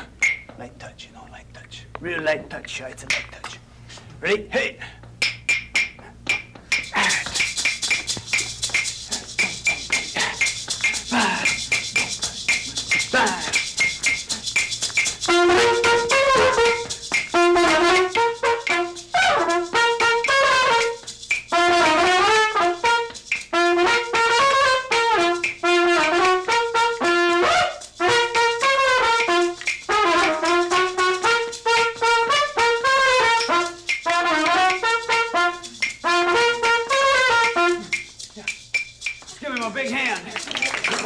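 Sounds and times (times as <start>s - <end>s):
maracas shaking: 0.0s - 0.6s, 2.9s - 4.2s, 4.8s - 41.0s
trumpet playing lively tune: 6.8s - 41.0s.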